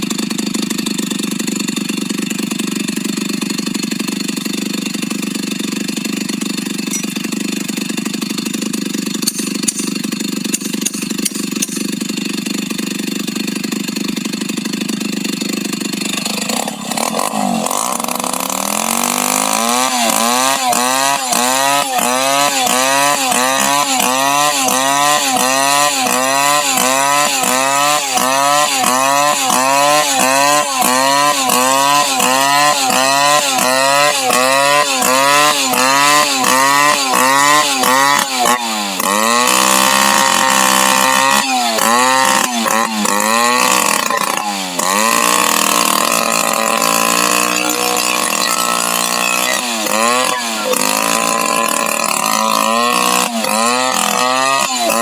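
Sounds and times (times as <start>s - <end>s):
chainsaw engine revving: 0.0s - 55.0s.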